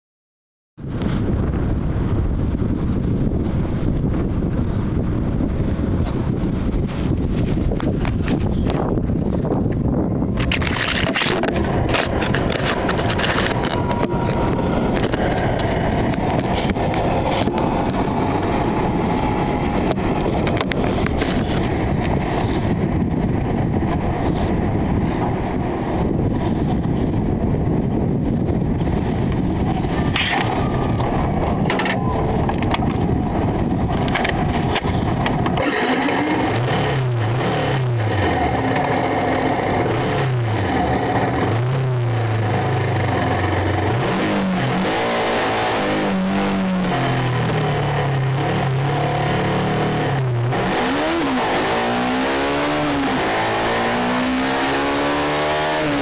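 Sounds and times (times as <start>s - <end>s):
rushing wind: 0.8s - 56.0s
motorcycle engine revving: 2.4s - 27.3s, 28.4s - 56.0s.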